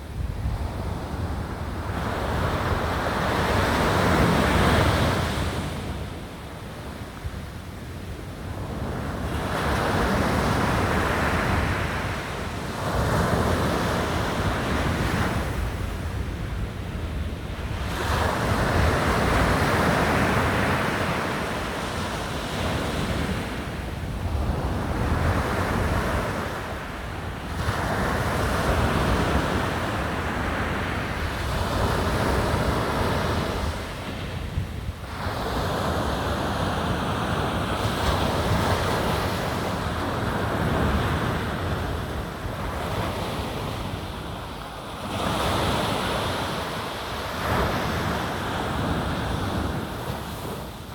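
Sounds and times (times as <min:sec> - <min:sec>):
wind rumbling on microphone: 0:00.0 - 0:50.9.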